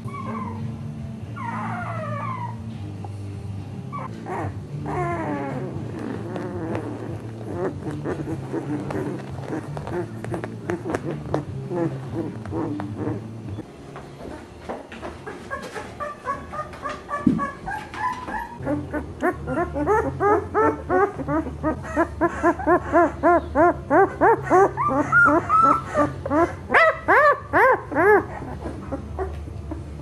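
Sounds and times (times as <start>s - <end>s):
puppy crying: 0.0s - 0.7s, 1.4s - 2.7s, 3.9s - 13.3s, 15.2s - 30.0s.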